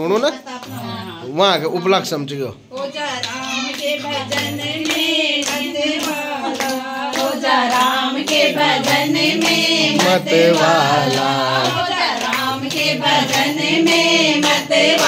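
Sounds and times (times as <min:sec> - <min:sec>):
hand claps: 0:00.1 - 0:00.8, 0:02.7 - 0:15.0
women singing in unison: 0:02.7 - 0:15.0.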